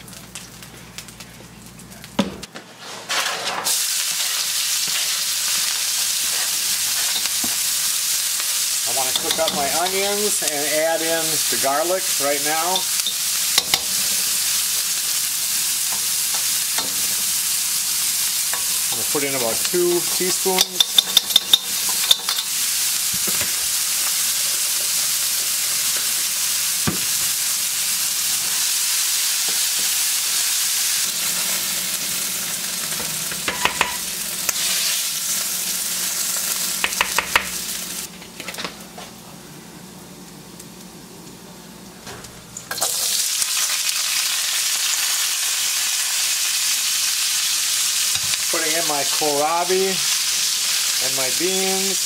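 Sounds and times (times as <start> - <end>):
onions and garlic sizzling in oil: 0.0 - 41.5, 42.1 - 52.0.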